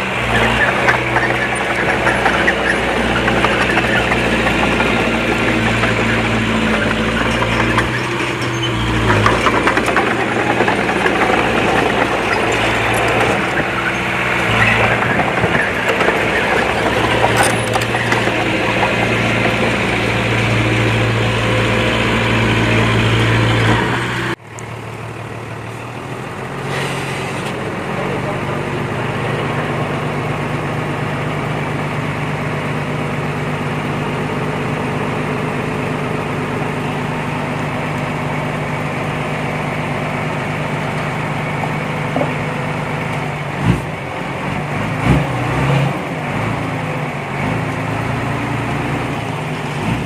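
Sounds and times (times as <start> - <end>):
machinery clatter: 0.0 - 24.4, 27.2 - 50.0
heavy diesel engine running: 0.0 - 50.0.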